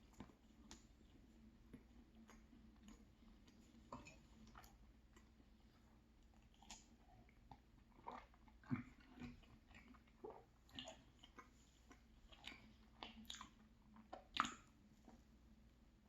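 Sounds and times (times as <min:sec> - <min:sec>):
chewing with mouth clicks: 0:00.0 - 0:15.3.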